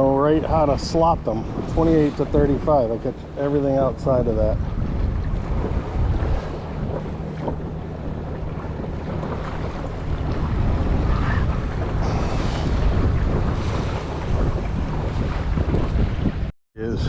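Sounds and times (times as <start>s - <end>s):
boat motor humming: 0.0s - 16.5s
water against hull: 0.0s - 16.5s
wind buffeting microphone: 0.0s - 17.0s.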